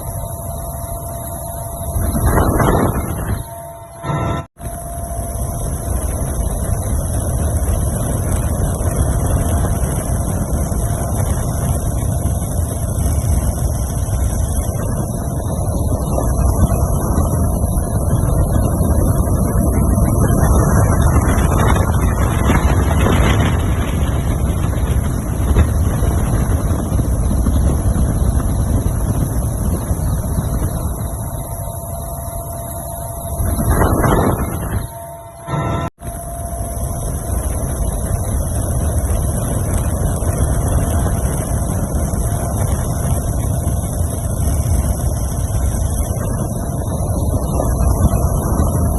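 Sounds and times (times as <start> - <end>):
steady engine noise: 0.0 - 48.9
wind buffeting microphone: 0.0 - 48.9.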